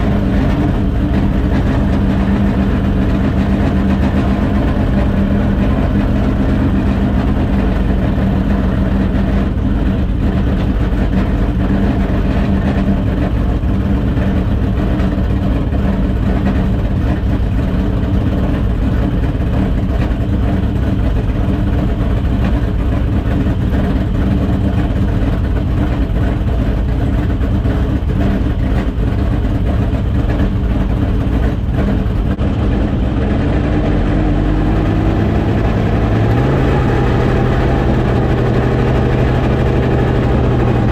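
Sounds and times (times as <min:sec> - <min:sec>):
race car engine running: 0:00.0 - 0:40.9.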